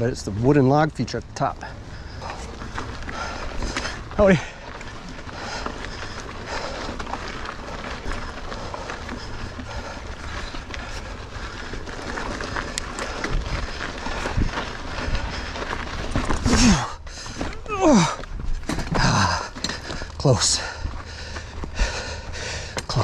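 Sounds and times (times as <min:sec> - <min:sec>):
bike tyres rustling on dirt: 0:00.0 - 0:23.0.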